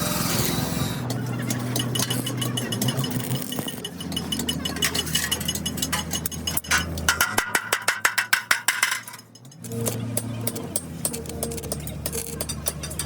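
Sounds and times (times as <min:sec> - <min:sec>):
rapid metallic clicks and knocks: 0:01.1 - 0:13.0.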